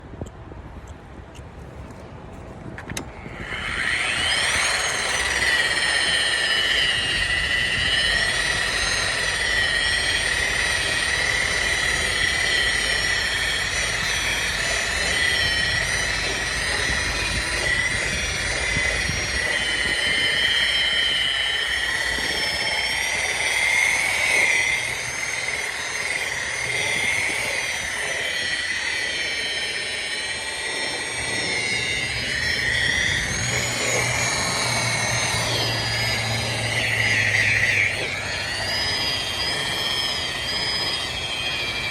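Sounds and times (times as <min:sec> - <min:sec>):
electric wheel polisher whining: 0:02.7 - 0:41.9.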